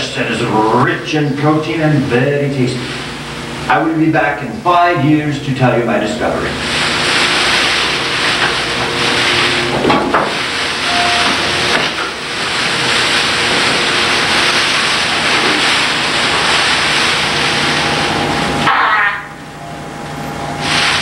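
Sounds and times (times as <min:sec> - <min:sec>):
hissing rush of noise: 0:00.0 - 0:21.0.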